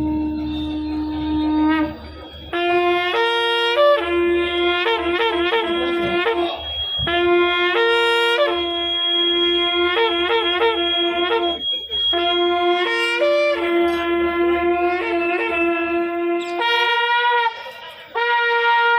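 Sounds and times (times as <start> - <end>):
wind instruments playing loudly: 0.0 - 18.9.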